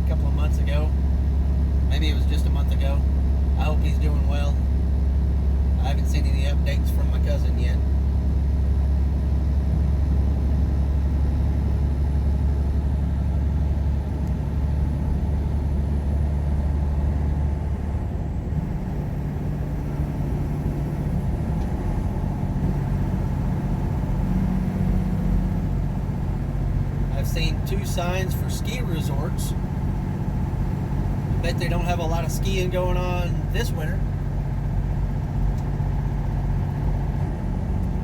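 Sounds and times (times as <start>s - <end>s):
truck engine drone in cab: 0.0s - 38.0s.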